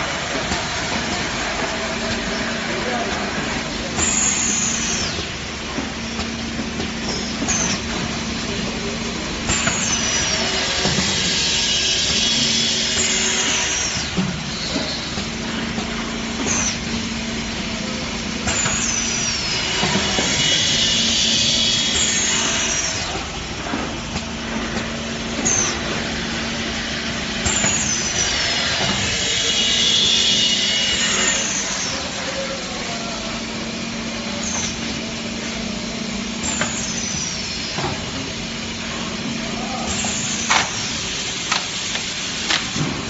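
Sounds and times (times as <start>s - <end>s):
machine motor hum: 0.0s - 43.0s.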